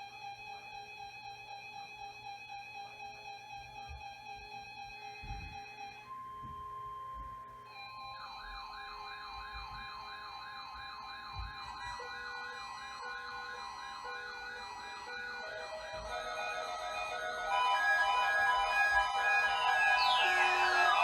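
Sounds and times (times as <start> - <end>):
steady alarm tone: 0.0 - 21.0
siren-like warbling alarm: 0.7 - 21.0.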